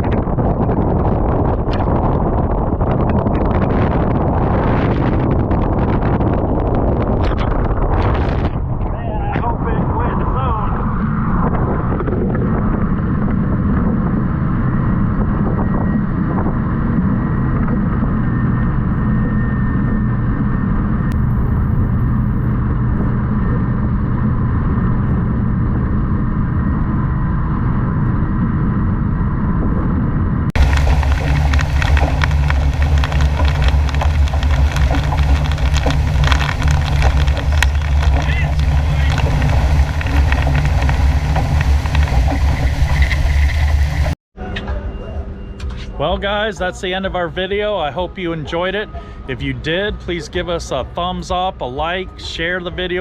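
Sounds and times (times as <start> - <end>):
boat engine running: 0.0 - 53.0
wind buffeting microphone: 0.0 - 53.0.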